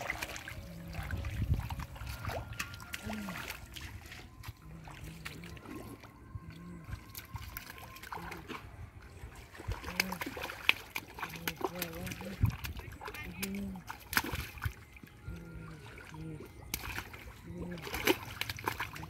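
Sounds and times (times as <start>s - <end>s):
muddy water sloshing: 0.0s - 19.0s
small splashes: 0.0s - 19.0s.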